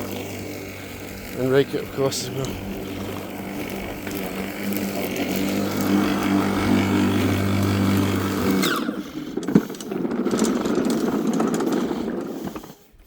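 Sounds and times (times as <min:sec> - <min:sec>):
lawnmower humming: 0:00.0 - 0:13.0.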